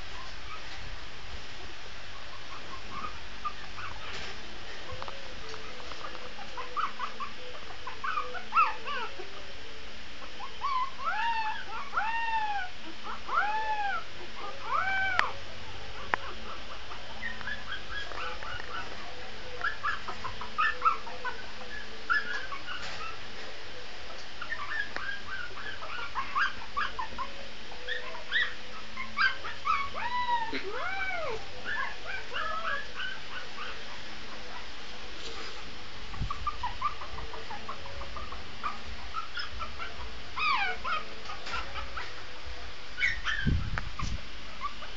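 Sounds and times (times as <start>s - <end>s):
puppy whining: 2.3s - 9.4s, 10.2s - 15.4s, 16.0s - 23.2s, 24.4s - 42.3s, 43.0s - 44.9s.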